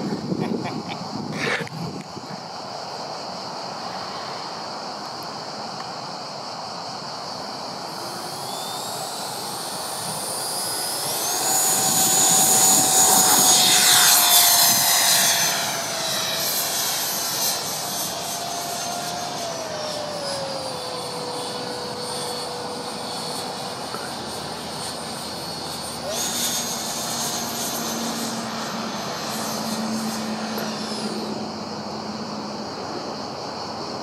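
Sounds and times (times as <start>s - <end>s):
electric ducted fan whine: 0.0s - 34.0s.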